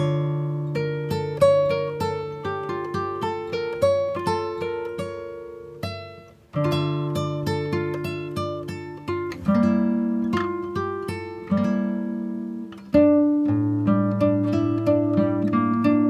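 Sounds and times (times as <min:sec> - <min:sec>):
plucked acoustic guitar: 0:00.0 - 0:16.0.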